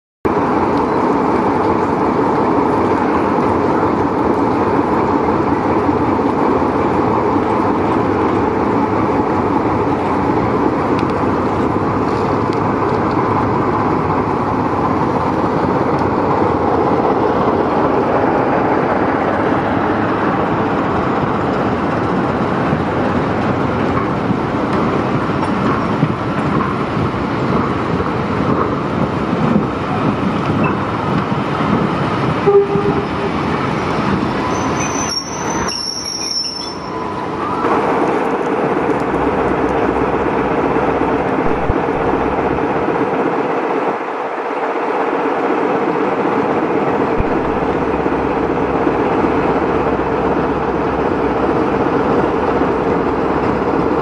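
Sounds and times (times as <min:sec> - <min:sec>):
coaches rumbling over rails: 0:00.3 - 0:54.0
diesel locomotive engine: 0:00.3 - 0:54.0.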